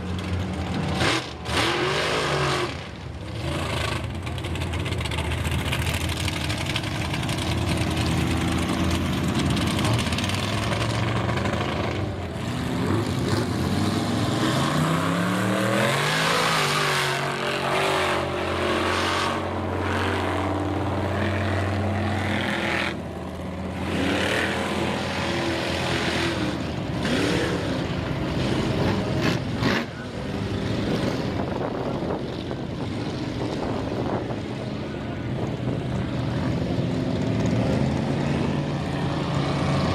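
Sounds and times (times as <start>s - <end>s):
truck engines revving hard: 0.0s - 39.9s.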